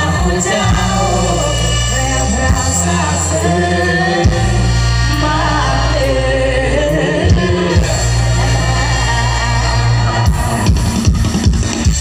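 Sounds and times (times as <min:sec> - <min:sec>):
person singing: 0:00.0 - 0:10.0
heavy bass line: 0:00.0 - 0:12.0.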